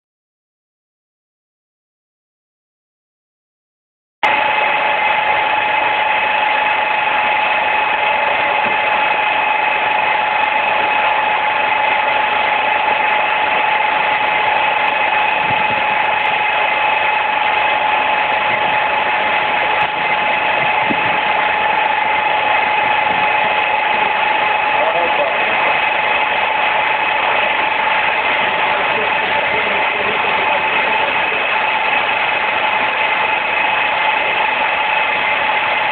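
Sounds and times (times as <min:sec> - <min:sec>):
electric motor whining: 0:04.3 - 0:35.9.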